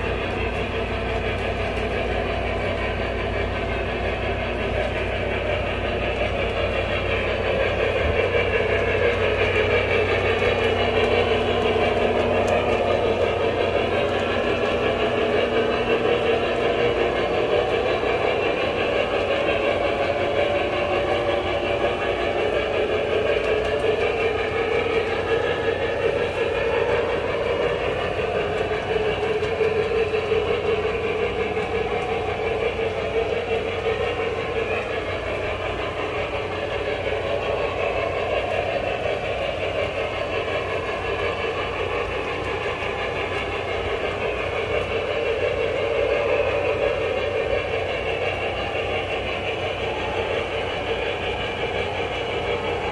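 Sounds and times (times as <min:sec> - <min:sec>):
locomotive engine sound effect: 0:00.0 - 0:52.9
model train wheels rumbling: 0:00.0 - 0:52.9.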